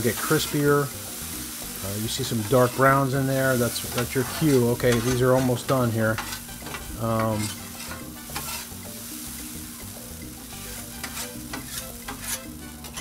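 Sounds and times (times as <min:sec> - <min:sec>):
metal spatulas scraping griddle: 0:00.0 - 0:00.9, 0:01.8 - 0:08.9, 0:10.6 - 0:13.0
potatoes sizzling in oil: 0:00.0 - 0:13.0.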